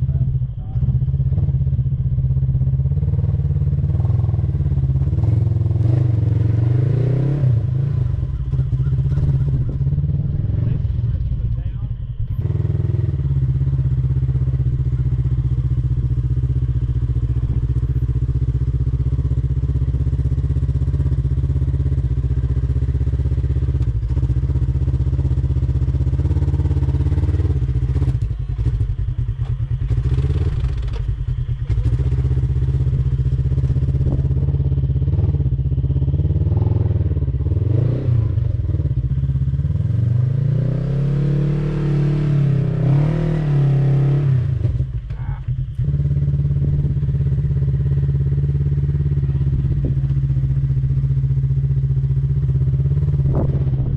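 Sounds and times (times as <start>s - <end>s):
buggy engine revving: 0.0s - 53.9s.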